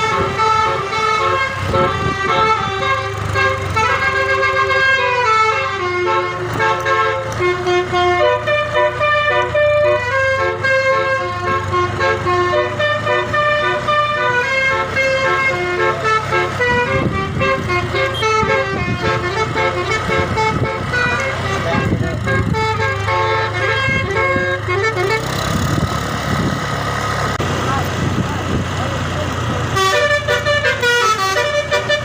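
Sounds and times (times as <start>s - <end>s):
air horn playing a melody: 0.0s - 25.5s, 29.7s - 32.0s.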